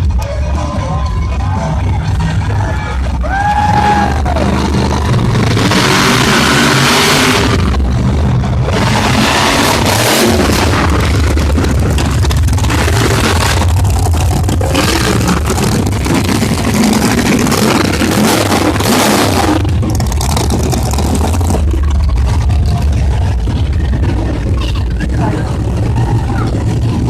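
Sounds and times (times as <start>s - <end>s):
monster truck engines revving: 0.0s - 27.0s.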